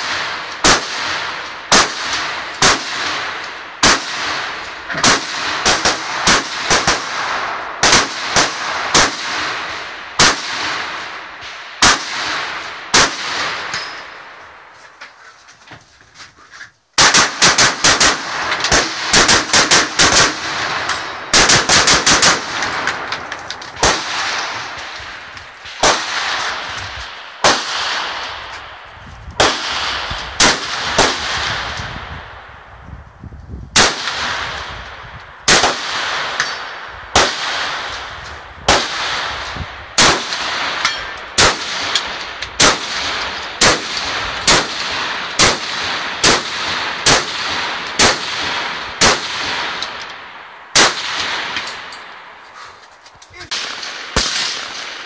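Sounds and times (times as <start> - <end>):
rifle gunshots echoing: 0.0 - 14.4, 17.0 - 28.5, 29.4 - 31.8, 33.8 - 52.3, 53.5 - 55.0.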